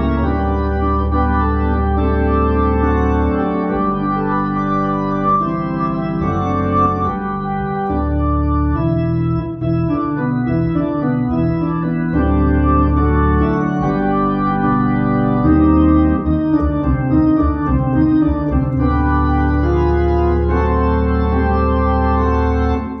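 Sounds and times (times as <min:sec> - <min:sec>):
organ chords with bass line: 0:00.0 - 0:23.0.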